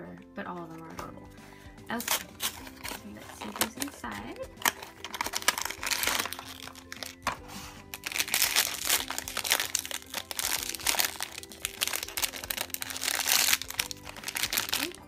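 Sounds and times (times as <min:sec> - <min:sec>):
light background music: 0:00.0 - 0:15.0
foil wrapper crinkling: 0:01.9 - 0:15.0.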